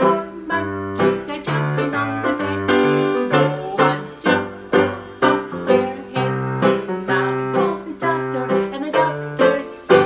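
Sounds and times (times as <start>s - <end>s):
electronic keyboard piano chords: 0.0s - 10.0s.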